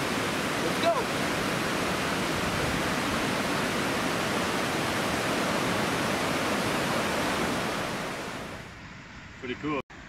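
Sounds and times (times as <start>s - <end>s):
river rushing over rocks: 0.0s - 8.6s.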